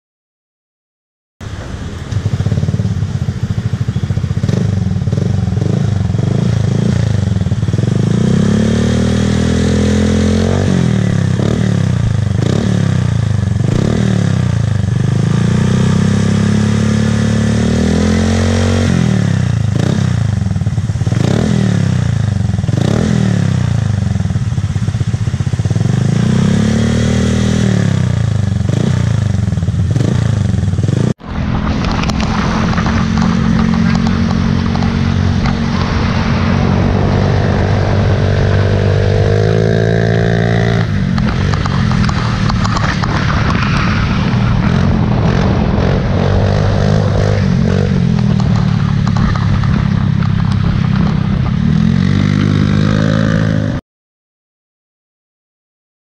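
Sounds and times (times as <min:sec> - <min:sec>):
scooter engine idling and revving: 0:01.4 - 0:53.8.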